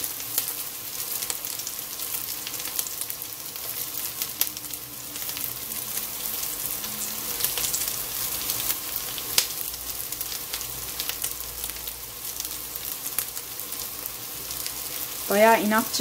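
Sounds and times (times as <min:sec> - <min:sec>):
patties sizzling in oil: 0:00.0 - 0:16.0.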